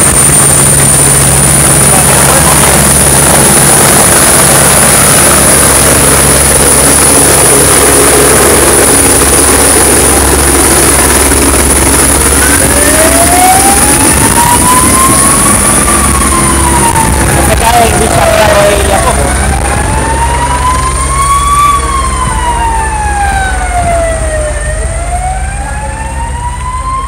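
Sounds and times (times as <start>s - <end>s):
emergency vehicle siren: 0.0s - 27.0s
loud engine noise: 0.0s - 27.0s.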